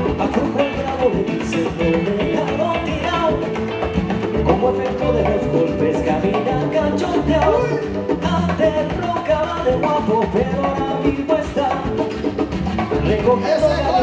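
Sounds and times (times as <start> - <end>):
latin dance music: 0.0 - 14.0.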